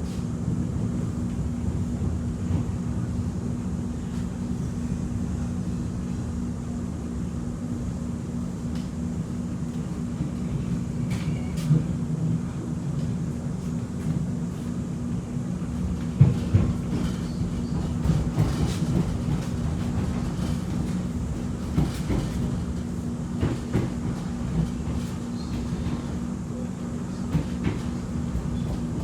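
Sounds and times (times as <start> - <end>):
train rumble and hum: 0.0 - 29.0.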